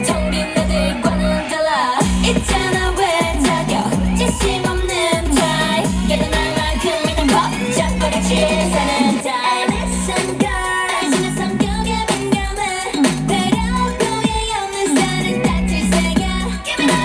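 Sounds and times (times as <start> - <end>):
dance backing track: 0.0 - 17.0
pounding bass beat: 0.0 - 17.0
woman singing: 0.0 - 17.0.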